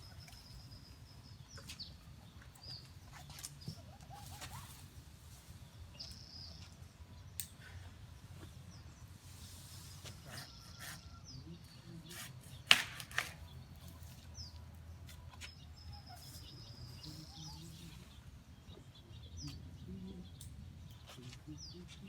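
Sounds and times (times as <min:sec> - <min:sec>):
birds chirping falling calls: 0:00.0 - 0:22.0.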